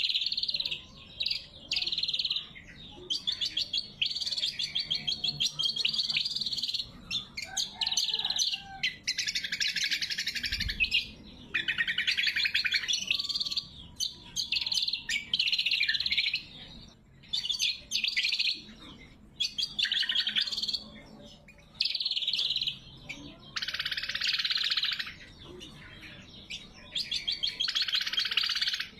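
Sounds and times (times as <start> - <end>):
bird chattering song: 0.0 - 28.9.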